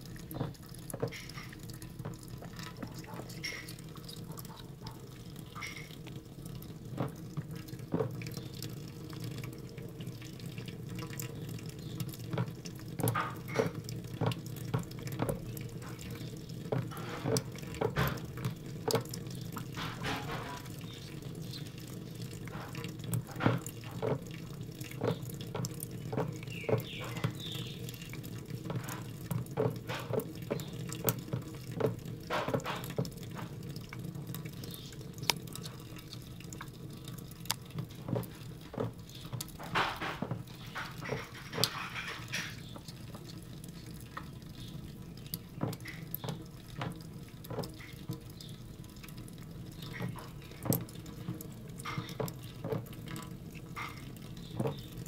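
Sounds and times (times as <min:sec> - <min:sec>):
kitten lapping water: 0:00.0 - 0:55.0.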